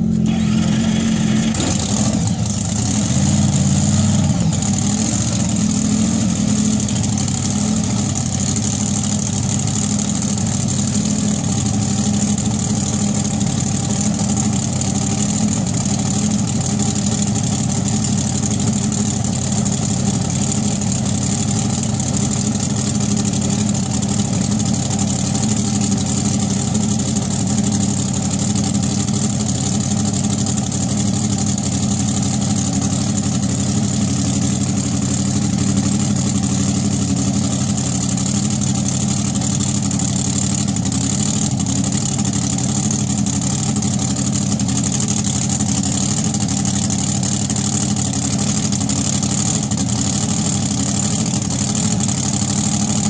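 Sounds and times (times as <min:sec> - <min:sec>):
race car engine idling: 0:00.0 - 0:53.0.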